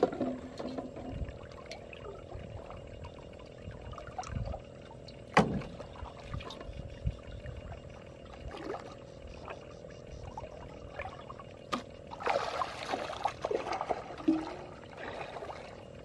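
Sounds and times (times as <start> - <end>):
water sloshing and trickling: 0.0 - 16.0.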